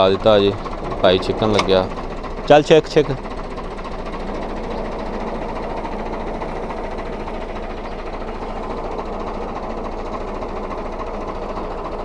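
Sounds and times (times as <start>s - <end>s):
tractor diesel engine humming: 0.0s - 12.0s.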